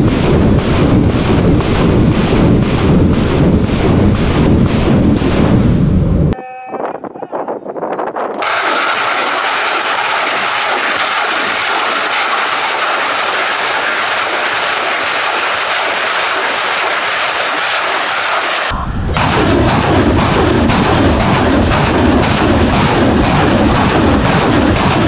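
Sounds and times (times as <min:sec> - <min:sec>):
deep rumble: 0:00.0 - 0:06.4, 0:08.4 - 0:25.0
rocket motors roaring: 0:00.0 - 0:06.4, 0:08.4 - 0:25.0.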